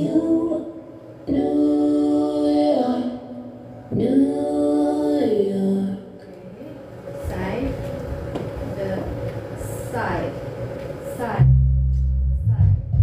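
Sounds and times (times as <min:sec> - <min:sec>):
slow music: 0:00.0 - 0:13.0.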